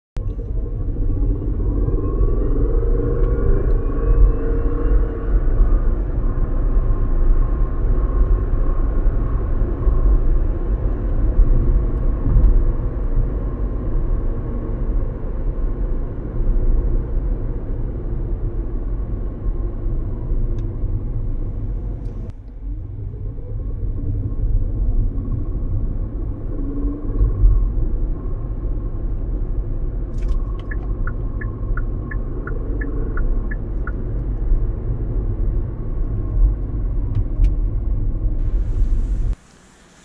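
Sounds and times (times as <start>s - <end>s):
car rumbling in motion: 0.2s - 40.0s
road and wind noise: 0.2s - 40.0s.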